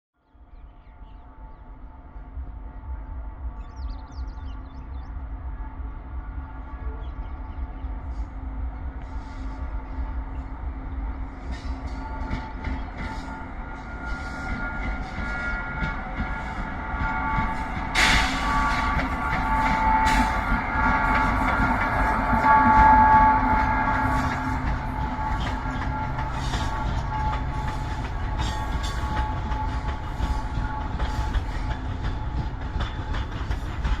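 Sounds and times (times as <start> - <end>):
high-pitched locomotive whine: 0.2 - 34.0
train rumbling: 0.2 - 34.0.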